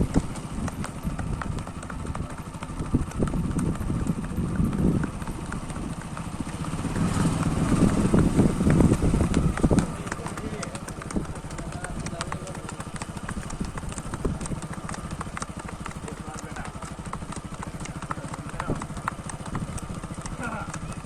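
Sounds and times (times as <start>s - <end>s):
horse hoofbeats: 0.0s - 21.0s.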